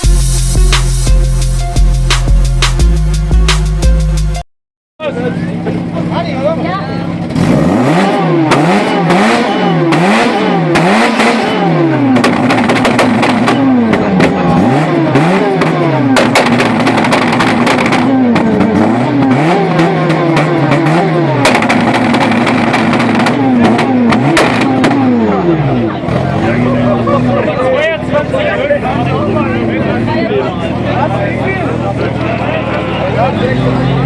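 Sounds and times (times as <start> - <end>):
exhaust crackles: 0.0 - 4.2, 7.1 - 34.0
car engine revving: 0.0 - 4.4, 7.0 - 34.0.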